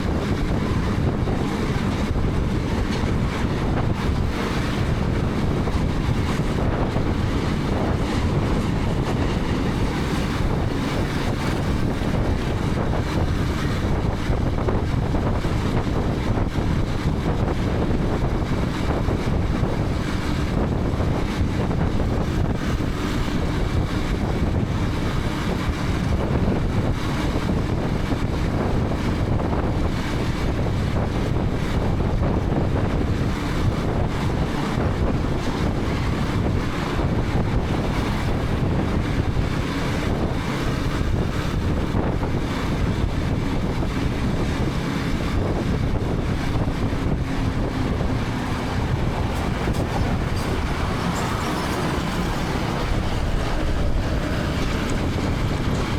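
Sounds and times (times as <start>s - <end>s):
motorcycle engine humming: 0.0s - 25.9s, 29.5s - 55.9s
wind rushing over microphone: 0.0s - 55.9s.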